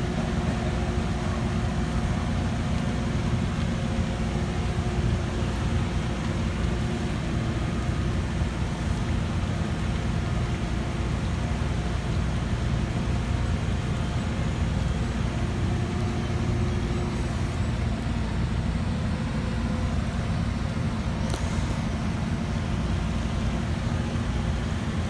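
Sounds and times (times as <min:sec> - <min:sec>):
diesel construction machinery droning: 0:00.0 - 0:25.0.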